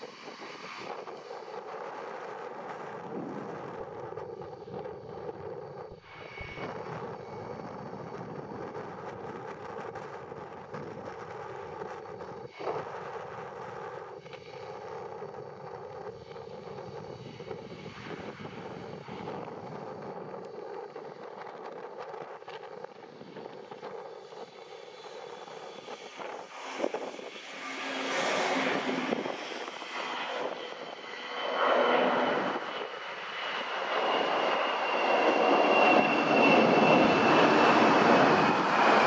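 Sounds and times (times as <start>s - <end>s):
jet airliner engines running: 0.0s - 39.0s.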